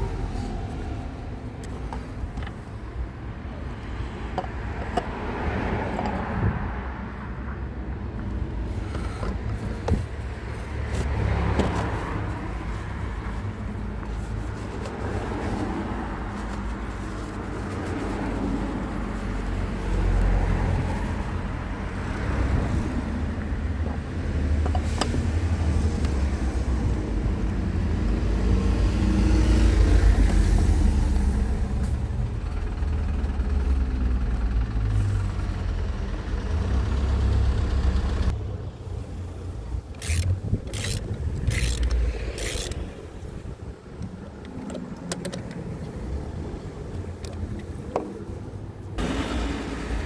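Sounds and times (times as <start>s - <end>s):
car engine rumbling: 7.6s - 50.0s.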